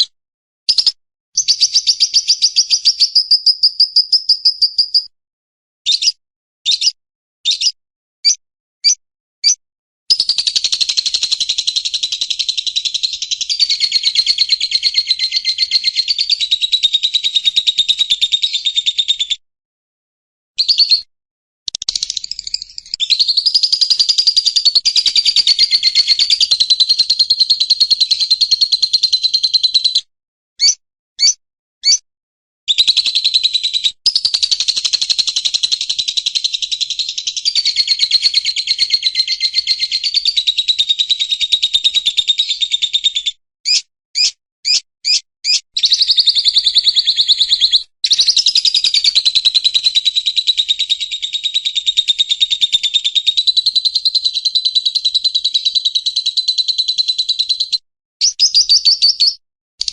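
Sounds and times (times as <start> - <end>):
bird song with rapid trills: 0.7 - 5.1, 5.9 - 19.4, 20.6 - 21.1, 21.7 - 32.0, 32.7 - 59.9.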